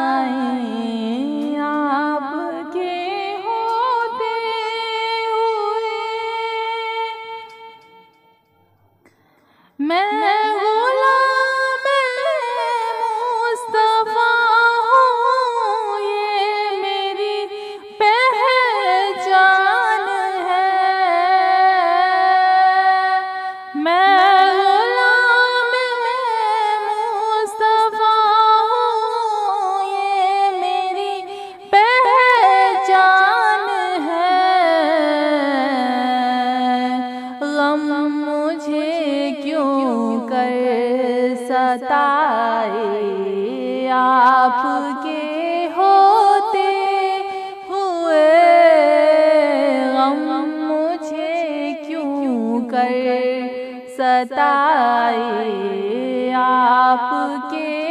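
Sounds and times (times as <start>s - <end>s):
woman singing devotional song: 0.0s - 57.9s.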